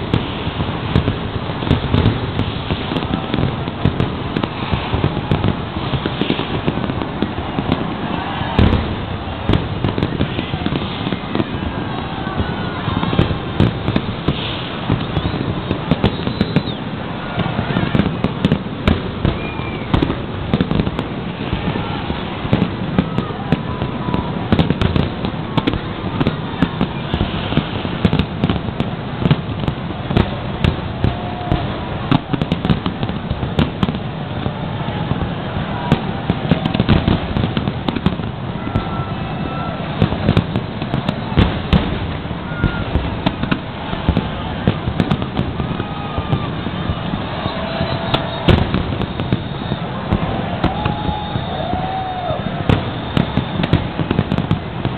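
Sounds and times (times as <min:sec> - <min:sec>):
fireworks bursting: 0:00.0 - 0:54.9
fireworks crackling: 0:00.0 - 0:54.9.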